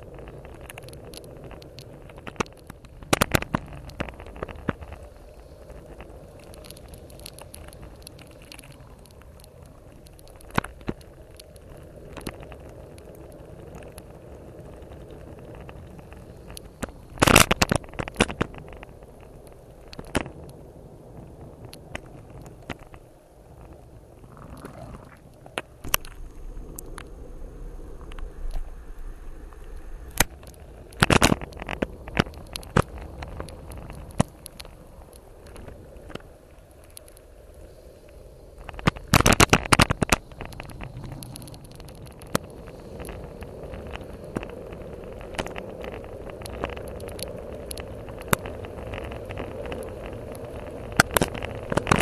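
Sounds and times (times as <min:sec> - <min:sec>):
muffled bike rolling on wet road: 0:00.0 - 0:52.0.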